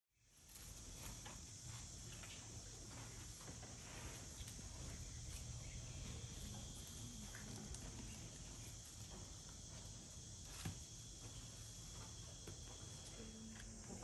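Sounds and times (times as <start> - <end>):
high-pitched insect chorus: 0.3 - 14.0.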